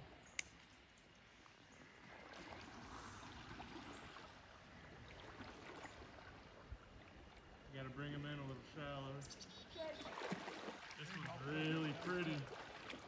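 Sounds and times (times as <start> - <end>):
shallow river flowing: 0.0 - 13.0.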